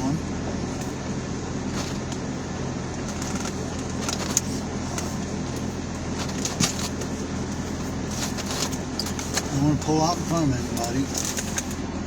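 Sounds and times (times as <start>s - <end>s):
fan blowing: 0.0s - 12.0s
vehicle engine idling: 0.0s - 12.0s.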